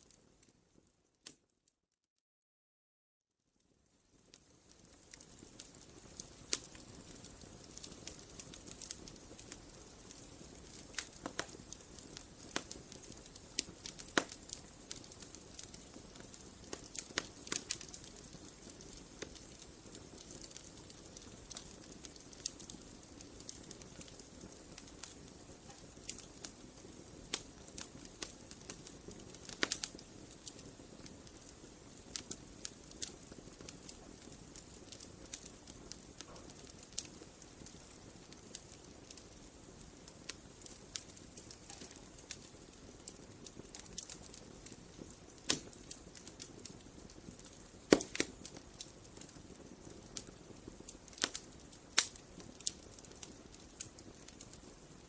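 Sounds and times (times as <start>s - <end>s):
wood fire crackling: 0.0s - 1.5s, 3.6s - 55.0s.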